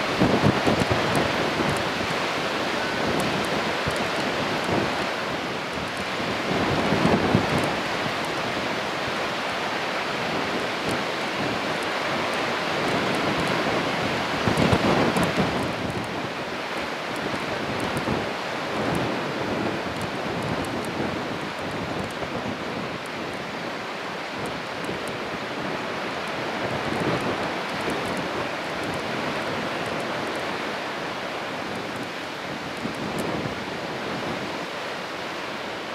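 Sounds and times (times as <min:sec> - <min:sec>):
wind buffeting microphone: 0:00.0 - 0:09.4, 0:10.1 - 0:35.9.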